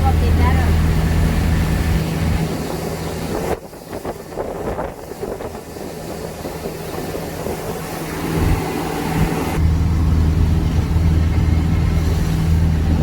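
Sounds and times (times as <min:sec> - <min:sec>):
boat motor humming: 0:00.0 - 0:13.0
wind on microphone: 0:00.0 - 0:13.0.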